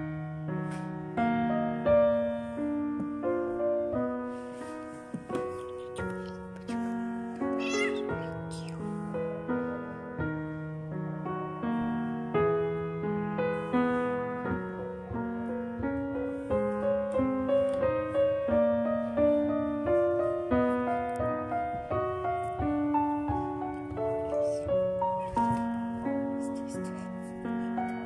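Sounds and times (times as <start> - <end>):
piano melody: 0.0 - 28.0.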